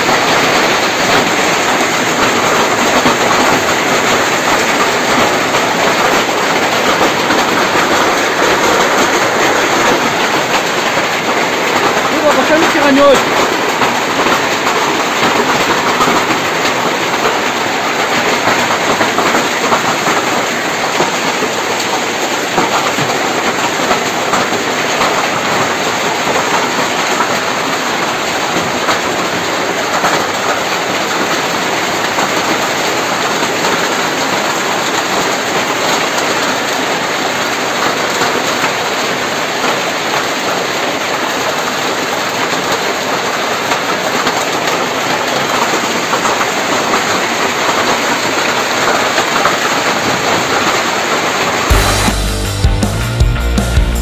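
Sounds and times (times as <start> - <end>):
hail pelting down: 0.0 - 52.6.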